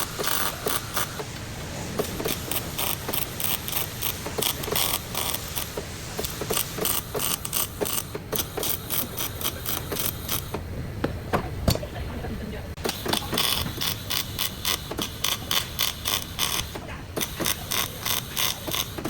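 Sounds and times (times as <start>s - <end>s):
hand tool clicking: 0.0s - 1.3s, 2.0s - 10.6s, 12.8s - 19.0s.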